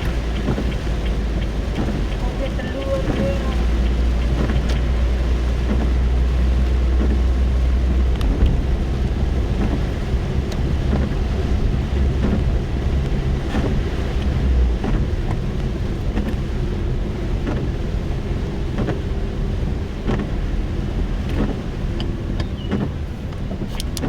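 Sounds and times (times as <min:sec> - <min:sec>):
car low rumble: 0:00.0 - 0:24.0
rain on a car: 0:00.0 - 0:24.0
raindrops ticking: 0:00.0 - 0:24.0.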